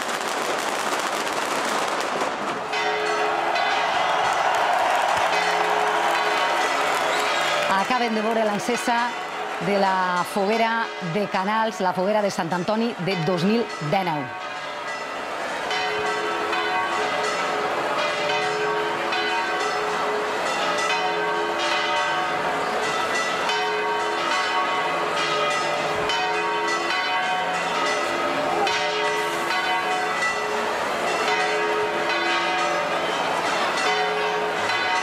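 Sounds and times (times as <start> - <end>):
church bells ringing: 2.6 - 35.0.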